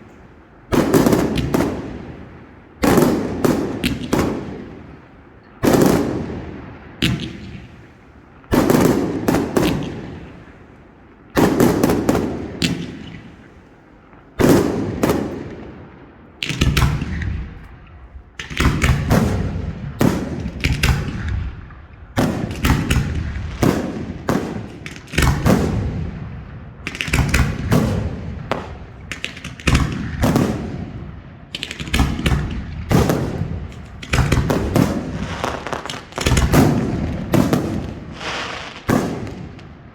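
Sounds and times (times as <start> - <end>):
fireworks bangs with echo: 0.7 - 39.9.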